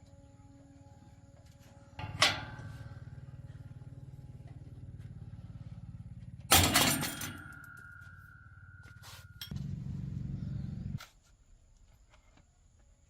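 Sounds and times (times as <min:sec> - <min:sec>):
motor running with low pulse: 0:00.0 - 0:11.0.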